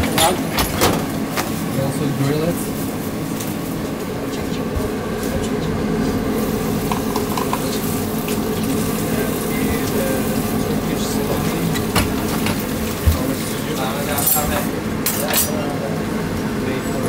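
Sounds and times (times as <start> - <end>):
rushing kitchen noise: 0.0 - 17.0.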